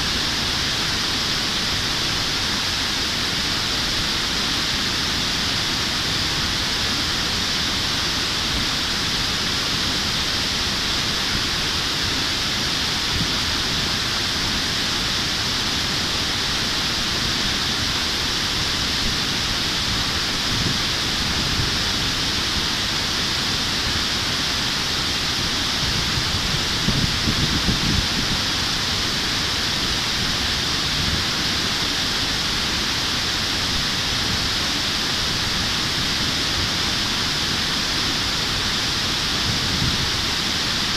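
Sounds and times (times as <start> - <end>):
river water rushing over weir: 0.0 - 40.9.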